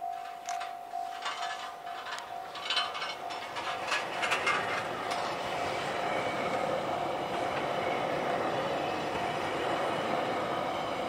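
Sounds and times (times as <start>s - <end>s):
wheels clacking over rail joints: 0.4s - 11.0s
train rushing past: 1.2s - 11.0s.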